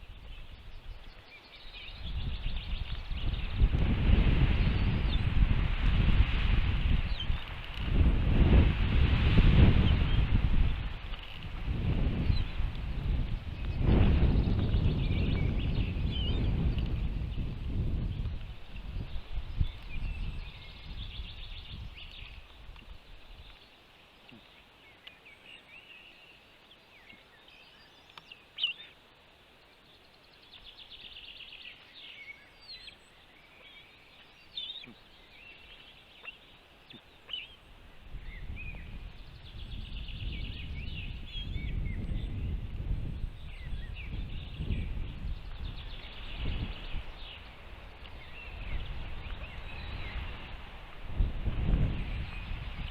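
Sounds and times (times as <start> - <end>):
small birds chirping: 0.0 - 5.5, 9.8 - 52.9.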